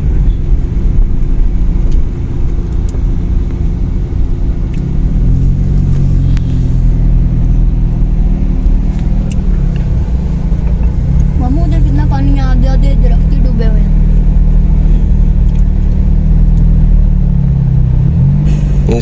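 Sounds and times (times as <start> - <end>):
car engine rumble: 0.0 - 19.0.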